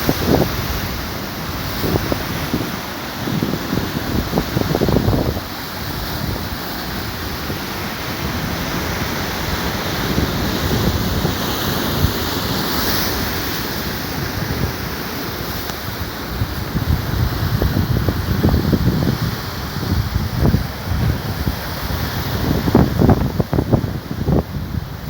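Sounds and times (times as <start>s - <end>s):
sea surf breaking: 0.0s - 25.0s
wind buffeting microphone: 0.0s - 25.0s.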